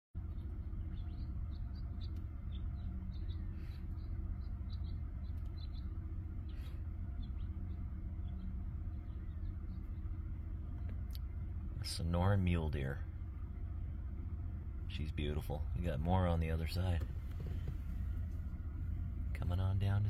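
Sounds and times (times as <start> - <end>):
small birds chirping: 0.2 - 20.0
steady low rumble: 0.2 - 20.0.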